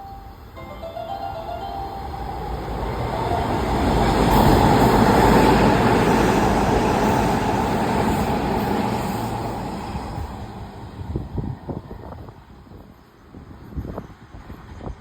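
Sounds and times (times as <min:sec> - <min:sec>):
trains passing at speed: 0:00.0 - 0:15.0.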